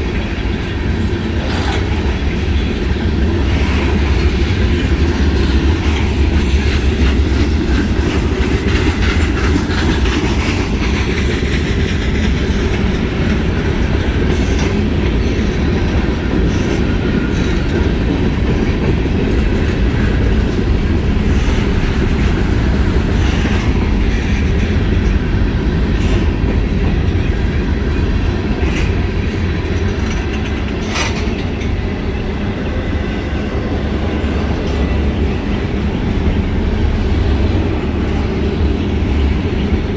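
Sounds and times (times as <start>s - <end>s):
clacks over rail joints: 0.0s - 39.9s
train wheels rumbling on rail: 0.0s - 39.9s.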